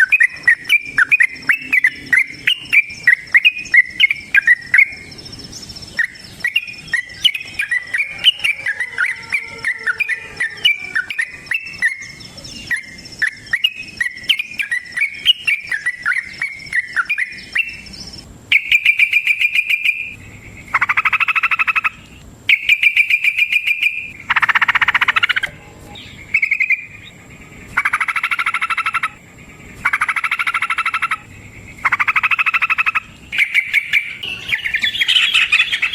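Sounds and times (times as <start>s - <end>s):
bulbul chattering trills: 0.0s - 35.9s
faint high whine: 0.0s - 35.9s.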